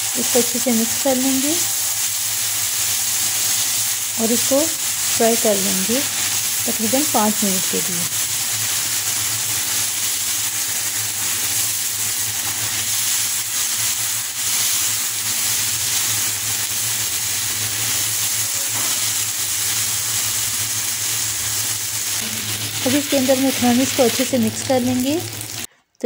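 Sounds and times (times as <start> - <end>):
vegetables sizzling in a pan: 0.0 - 25.7.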